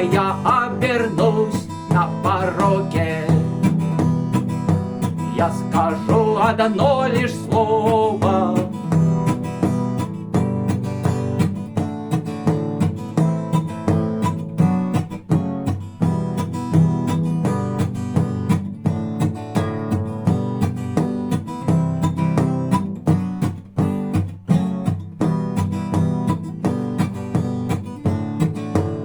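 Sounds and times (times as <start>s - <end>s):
acoustic guitar strumming: 0.0s - 29.0s
knocks on guitar body: 0.0s - 29.0s.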